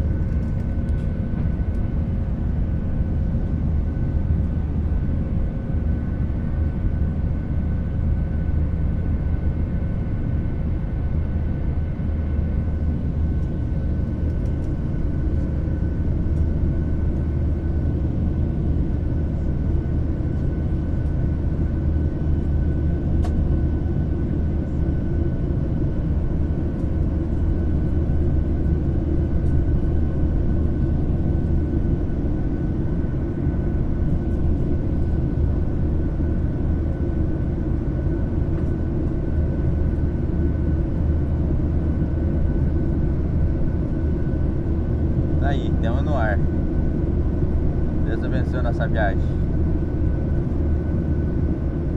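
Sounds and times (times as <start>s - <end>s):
jet engines in airplane cabin: 0.0s - 51.9s.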